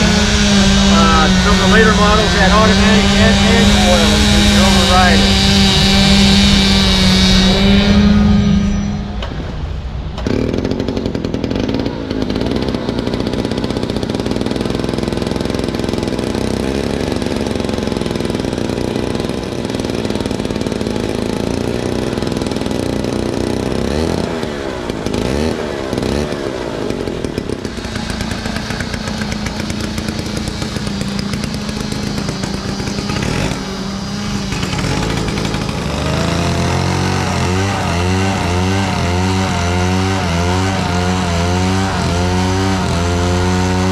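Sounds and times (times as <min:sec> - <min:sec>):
chainsaw engine running: 0:00.0 - 0:43.9.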